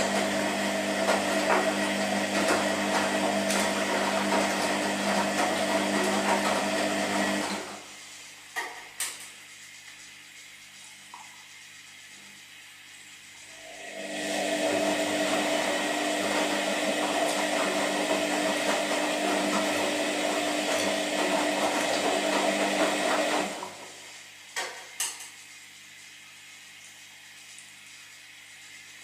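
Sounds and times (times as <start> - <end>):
washing machine motor whirring: 0.0 - 29.0.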